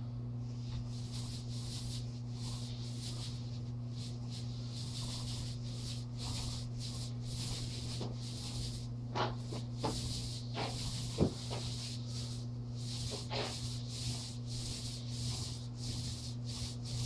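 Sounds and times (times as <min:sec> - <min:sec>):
low steady hum: 0:00.0 - 0:17.0
paintbrush swishing on a wall: 0:00.5 - 0:17.0.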